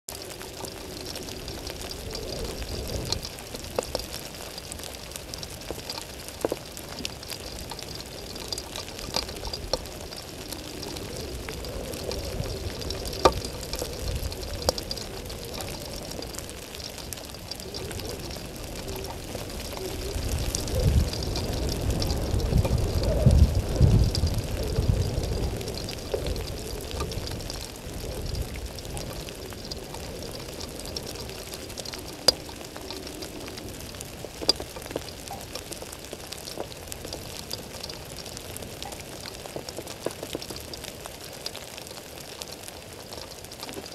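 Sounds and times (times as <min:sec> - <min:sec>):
rain falling steadily: 0:00.0 - 0:43.9
ticks of single raindrops: 0:00.1 - 0:43.9.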